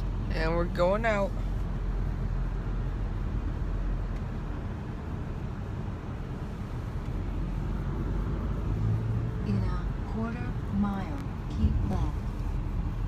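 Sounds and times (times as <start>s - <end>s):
car engine hum: 0.0s - 13.0s
road and tyre noise: 0.0s - 13.0s.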